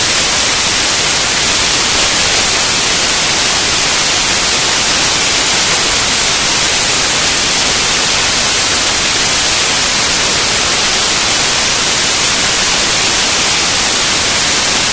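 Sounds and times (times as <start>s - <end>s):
static hiss: 0.0s - 14.9s.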